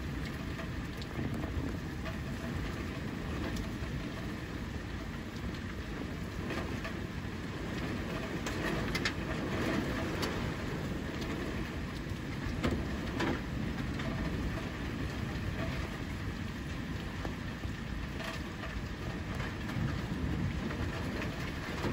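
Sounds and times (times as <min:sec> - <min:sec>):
heavy rain: 0:00.0 - 0:21.9
strong wind: 0:00.0 - 0:21.9.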